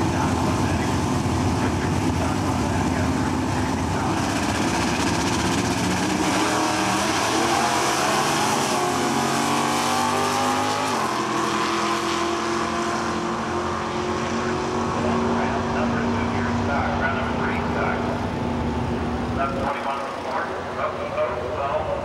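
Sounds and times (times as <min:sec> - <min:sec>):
drag racing cars accelerating: 0:00.0 - 0:22.0.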